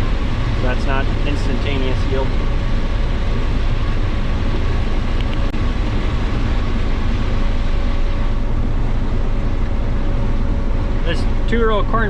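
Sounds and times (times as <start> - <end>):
combine harvester drone: 0.0 - 12.0
faint steady whine: 0.0 - 12.0.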